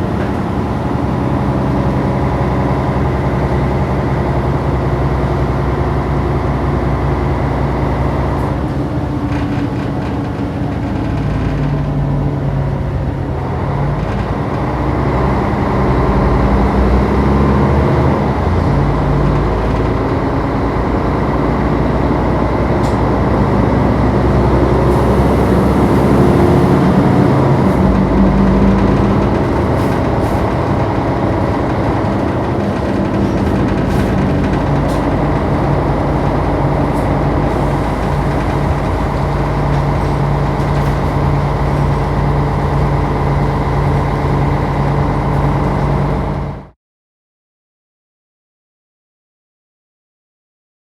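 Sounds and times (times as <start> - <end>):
road noise: 0.0 - 46.7
bus diesel engine: 0.0 - 46.8.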